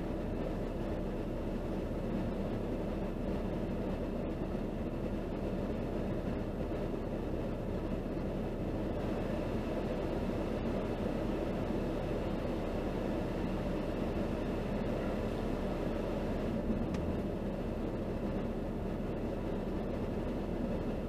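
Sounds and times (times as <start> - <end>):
car idling from inside: 0.0 - 21.0.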